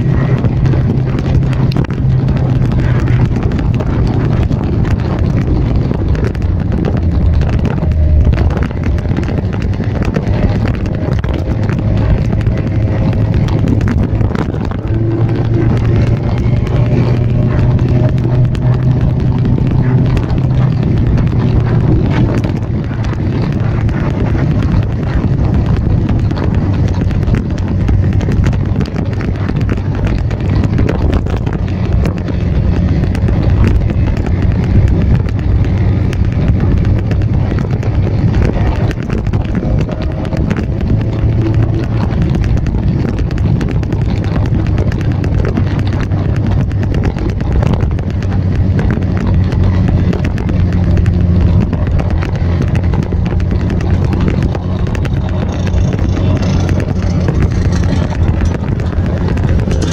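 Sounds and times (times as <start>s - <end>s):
scooter engines cruising: 0.0s - 59.9s
wind buffeting microphone: 0.0s - 59.9s.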